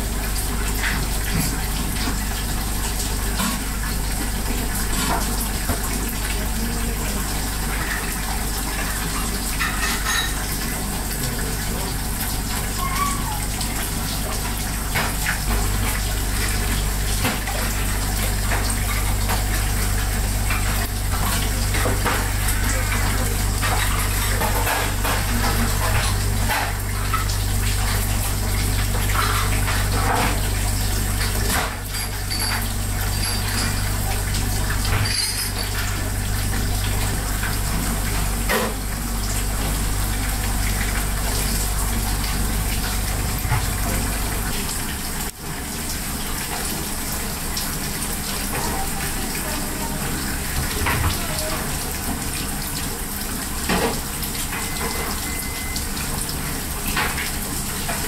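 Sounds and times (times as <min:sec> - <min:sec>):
low machine hum: 0:00.0 - 0:58.0
running water: 0:00.0 - 0:58.0.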